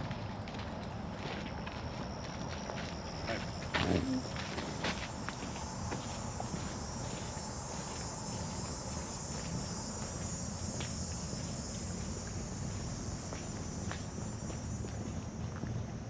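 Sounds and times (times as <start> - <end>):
high-pitched insect drone: 1.1 - 15.6.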